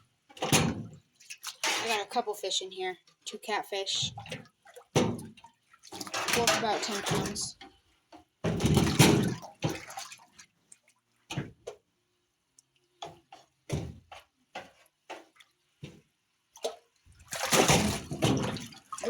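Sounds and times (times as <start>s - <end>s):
water splashing in a container: 0.3s - 7.8s, 8.4s - 11.8s, 12.6s - 19.0s.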